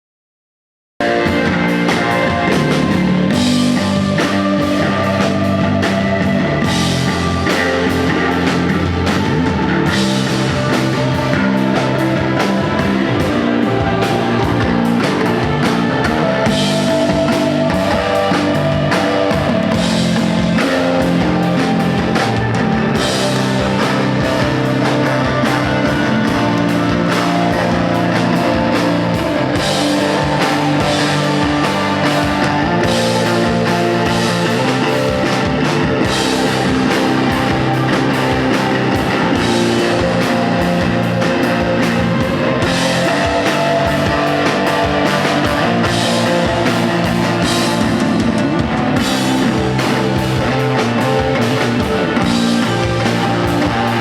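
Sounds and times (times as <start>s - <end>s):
live rock band playing: 1.0s - 54.0s.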